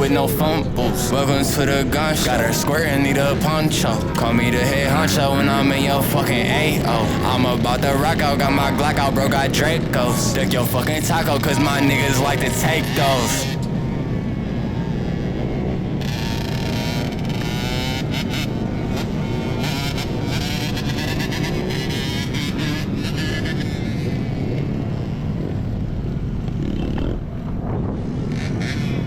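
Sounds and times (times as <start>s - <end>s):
motorcycles running: 0.0s - 29.0s
road noise roar: 0.0s - 29.0s.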